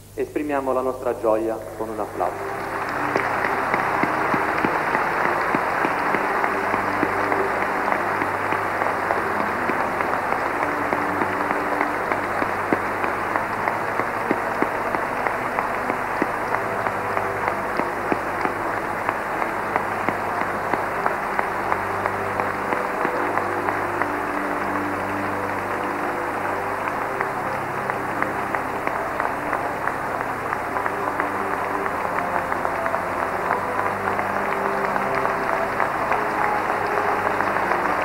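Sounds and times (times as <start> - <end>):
crowd applauding: 1.2 - 38.0.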